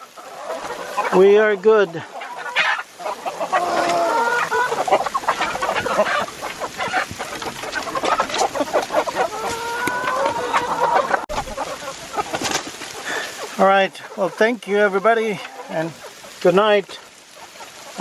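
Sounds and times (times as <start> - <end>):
chickens clucking: 0.0 - 18.0
drawn-out chicken calls: 0.0 - 18.0.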